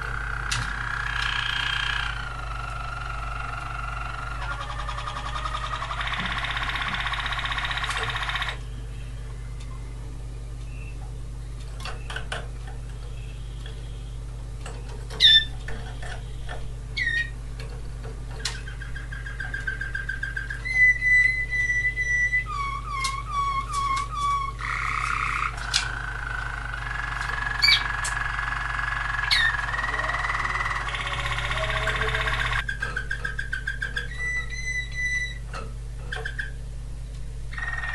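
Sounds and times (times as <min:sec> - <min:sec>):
canary singing: 0:00.0 - 0:10.0, 0:15.1 - 0:17.4, 0:18.3 - 0:35.5, 0:36.1 - 0:36.6, 0:37.5 - 0:37.9
steady low hum: 0:00.0 - 0:37.9.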